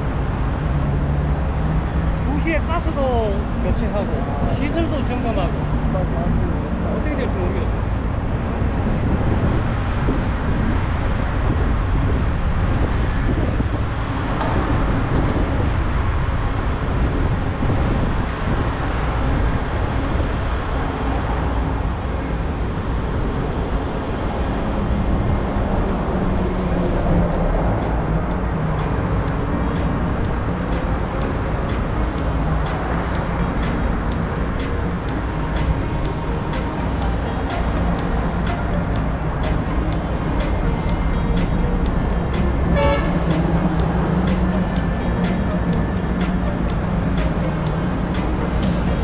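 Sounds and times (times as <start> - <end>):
low rumble of street traffic: 0.0 - 49.0.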